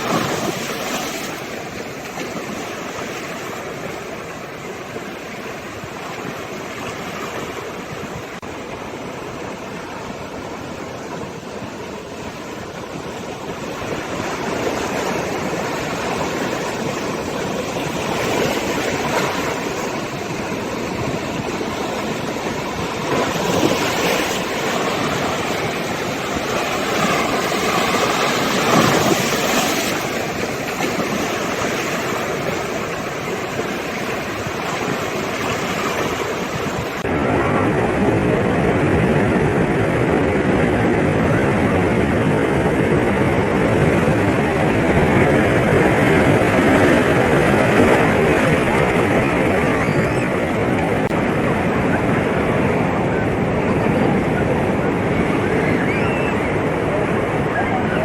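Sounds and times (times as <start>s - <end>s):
sea waves surging and washing: 0.0s - 58.0s.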